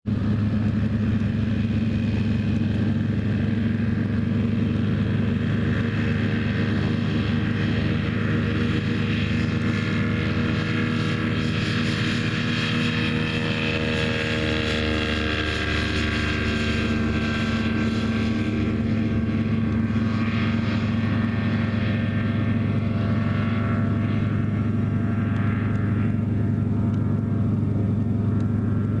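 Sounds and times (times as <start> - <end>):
motor glider engine drone: 0.0 - 29.0.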